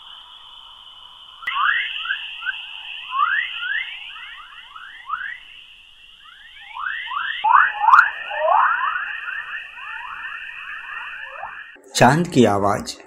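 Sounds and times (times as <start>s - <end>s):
steady high hiss: 0.0s - 13.0s
rising electronic chirps: 1.4s - 12.5s.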